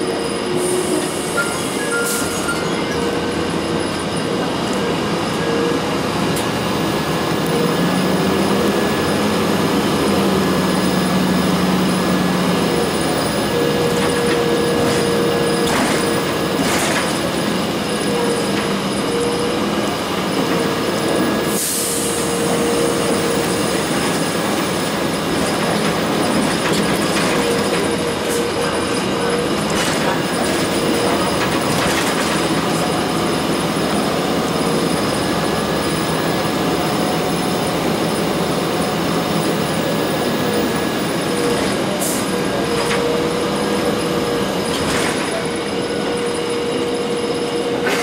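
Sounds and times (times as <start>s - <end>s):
bus diesel engine droning: 0.0s - 48.0s
road noise: 0.0s - 48.0s.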